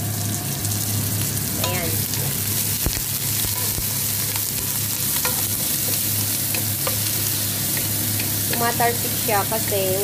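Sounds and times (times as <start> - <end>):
onion and garlic sizzling in oil: 0.0 - 10.0.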